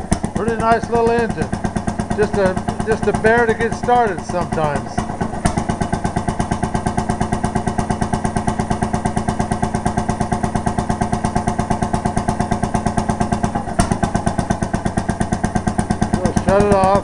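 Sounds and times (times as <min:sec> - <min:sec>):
two-stroke stationary engine running: 0:00.0 - 0:17.0.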